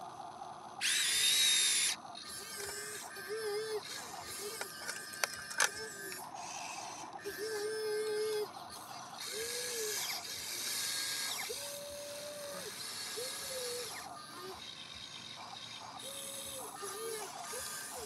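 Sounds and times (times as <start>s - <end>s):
raspy mechanical noise: 0.0s - 18.0s
toy electric motors whining: 0.0s - 18.0s.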